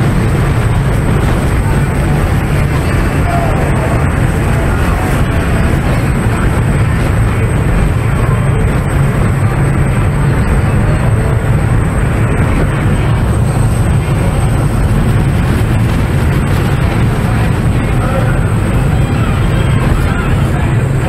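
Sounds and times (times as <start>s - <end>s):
boat engine drone: 0.0s - 21.0s
rushing water: 0.0s - 21.0s
wind buffeting microphone: 0.0s - 21.0s.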